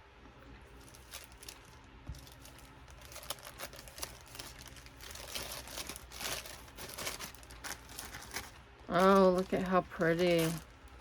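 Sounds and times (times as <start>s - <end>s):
packaging rustling and crinkling: 0.7s - 11.0s.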